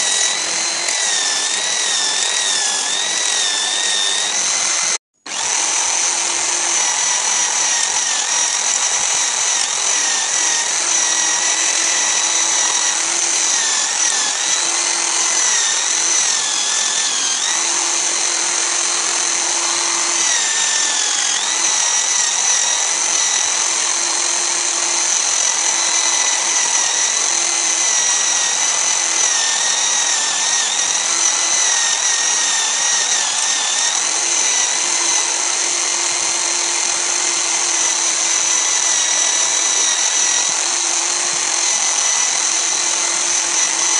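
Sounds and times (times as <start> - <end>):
lathe motor whining: 0.0 - 43.9.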